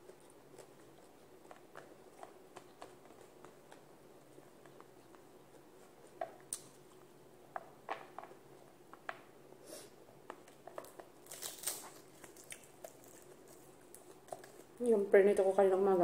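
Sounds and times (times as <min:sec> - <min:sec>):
clicks and smacks of eating: 0:00.0 - 0:09.3, 0:10.2 - 0:14.8.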